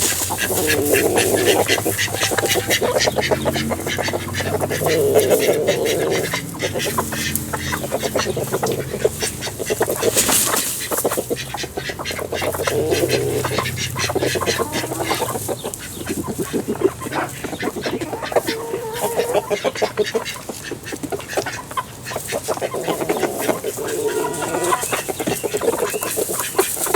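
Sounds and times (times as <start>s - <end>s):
chickens clucking: 0.0s - 26.9s
ducks quacking: 0.0s - 26.9s.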